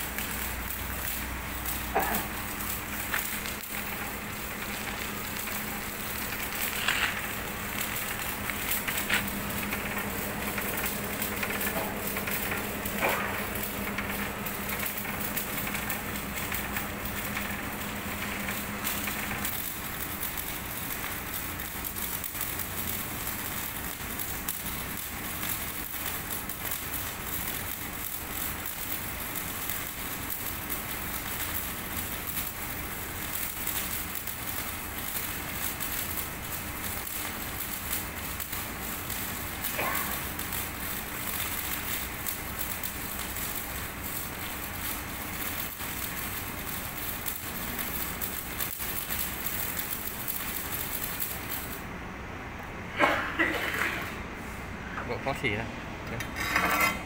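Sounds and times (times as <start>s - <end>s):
welding arc crackling: 0.0s - 57.0s.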